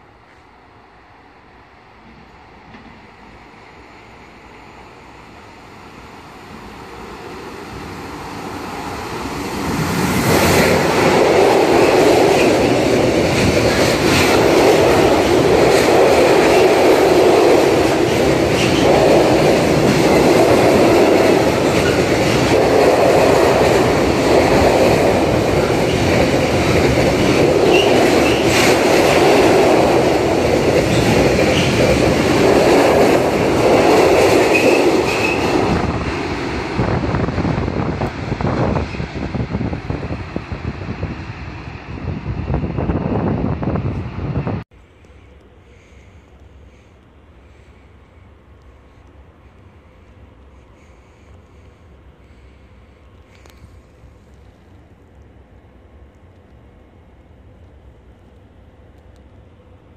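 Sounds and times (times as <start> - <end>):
electric locomotive passing: 0.0 - 59.9
train wheel noise: 0.0 - 59.9.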